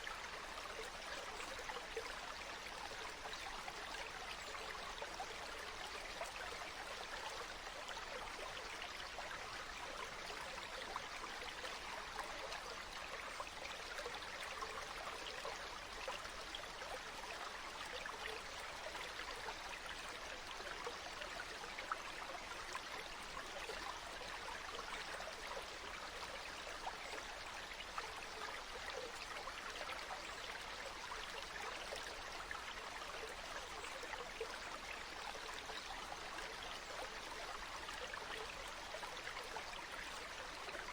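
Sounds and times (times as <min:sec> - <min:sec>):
flowing water with small splashes: 0:00.0 - 0:40.9.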